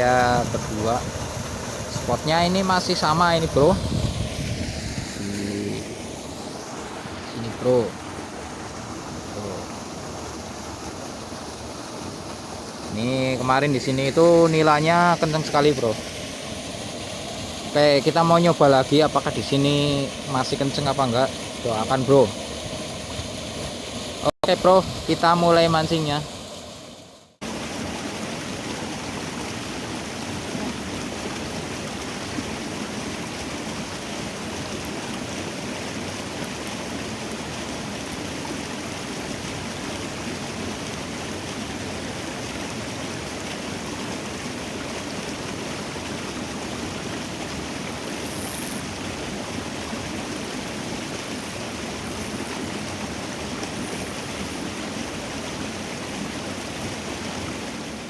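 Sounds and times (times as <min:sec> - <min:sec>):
water rushing in ditch: 0:00.0 - 0:58.0.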